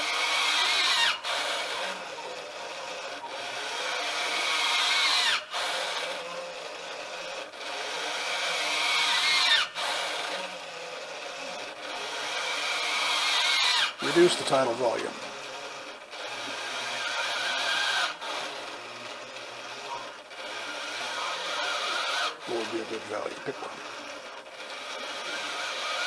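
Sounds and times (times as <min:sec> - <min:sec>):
servo whining: 0:00.0 - 0:26.0.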